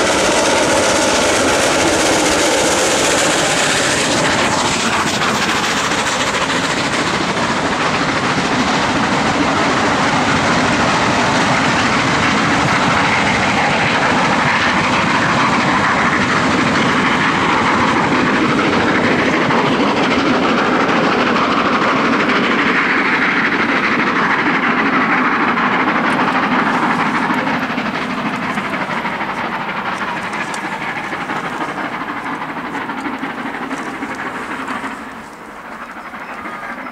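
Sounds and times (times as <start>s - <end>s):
train coaches rolling past: 0.0s - 36.9s
wheel-on-rail noise: 0.0s - 36.9s.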